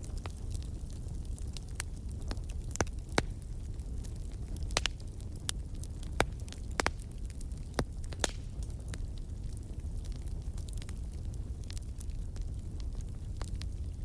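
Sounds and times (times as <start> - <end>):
low rumble of burning: 0.0 - 14.0
wood fire crackling: 0.0 - 14.0.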